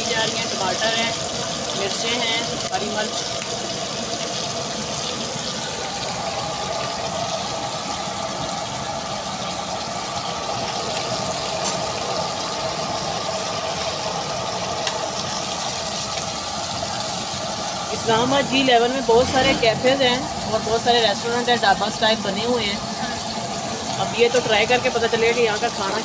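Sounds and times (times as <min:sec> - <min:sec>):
chicken frying in hot oil: 0:00.0 - 0:26.0
gas burner roaring: 0:00.0 - 0:26.0.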